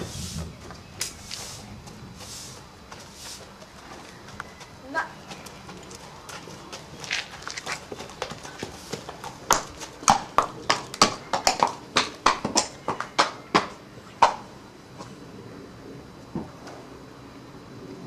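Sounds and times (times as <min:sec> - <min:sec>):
horse hooves clopping on concrete: 0:00.0 - 0:15.1.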